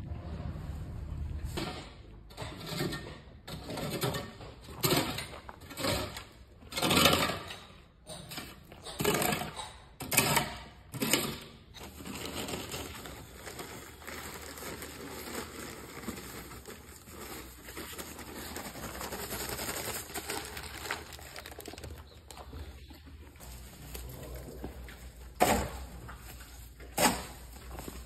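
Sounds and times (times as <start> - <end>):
shovel scraping cement mix: 1.5 - 28.0.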